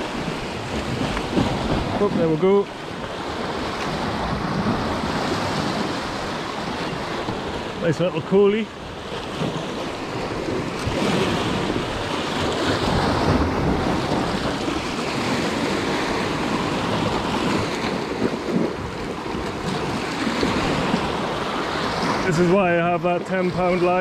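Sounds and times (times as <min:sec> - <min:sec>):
wind noise on microphone: 0:00.0 - 0:07.8, 0:08.8 - 0:24.0
sea surf washing against rocks: 0:00.0 - 0:24.0.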